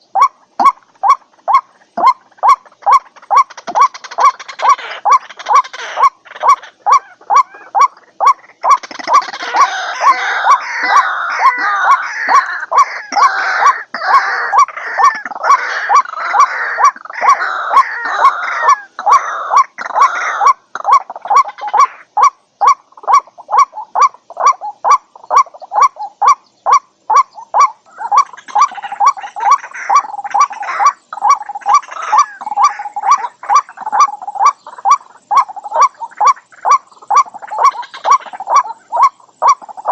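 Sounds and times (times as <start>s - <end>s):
harsh croaking bird calls: 0.0s - 39.9s.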